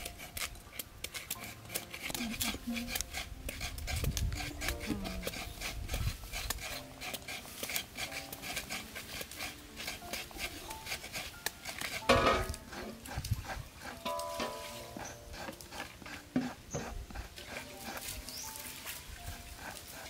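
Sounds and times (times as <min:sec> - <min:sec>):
scratchy rubbing and scraping: 0:00.0 - 0:20.0.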